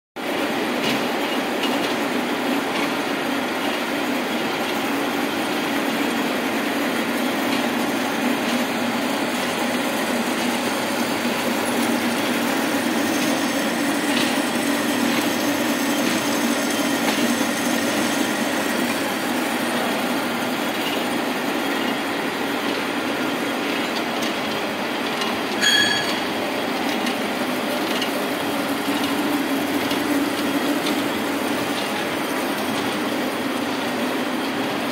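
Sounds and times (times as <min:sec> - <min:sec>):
lathe running: 0:01.5 - 0:34.9.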